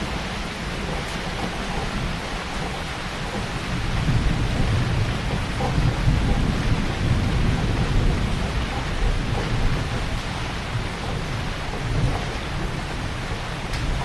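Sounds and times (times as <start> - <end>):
heavy rain falling: 0.0 - 14.0
low rumble of thunder: 0.0 - 14.0.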